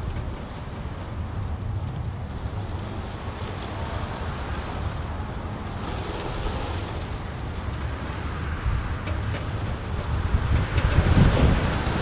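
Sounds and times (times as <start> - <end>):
wind buffeting microphone: 0.0 - 12.0
wind rushing through pine needles: 0.0 - 12.0.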